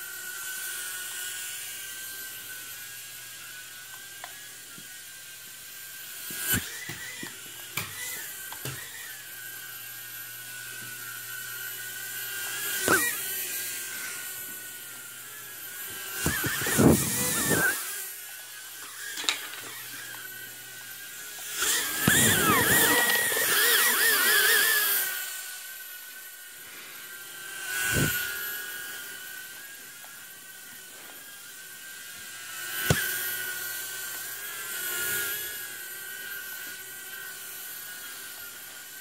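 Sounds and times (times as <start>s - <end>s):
toy drone propellers whining: 0.0s - 39.0s.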